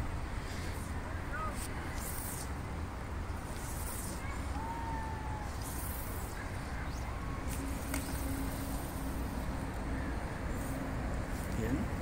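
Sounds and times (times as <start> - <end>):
faint steady hum: 0.0 - 12.0
low outdoor rumble: 0.0 - 12.0.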